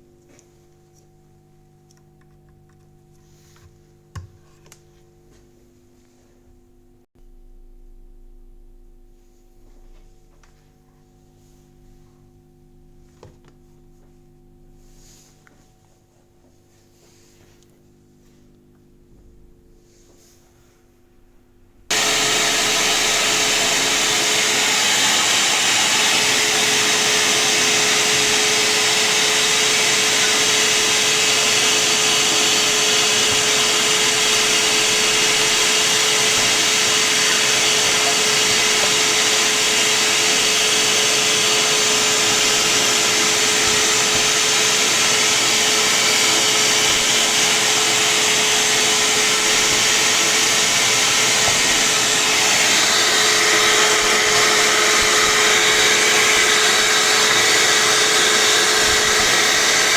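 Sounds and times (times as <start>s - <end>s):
vacuum cleaner running: 0.0s - 6.4s, 13.0s - 20.8s, 21.9s - 59.9s.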